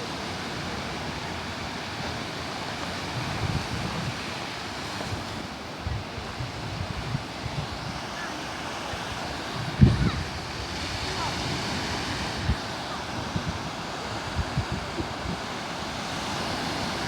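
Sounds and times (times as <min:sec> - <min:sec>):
surf washing onto shore: 0:00.0 - 0:17.0
wind buffeting microphone: 0:00.2 - 0:17.0.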